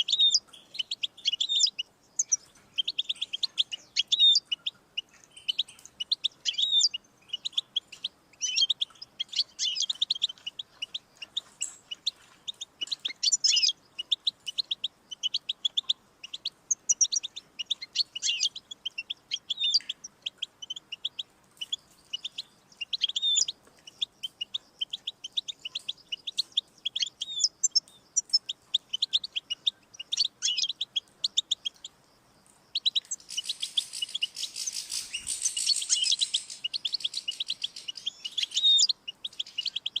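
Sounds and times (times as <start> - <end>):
goldfinch twittering song: 0.0 - 31.9, 32.6 - 40.0.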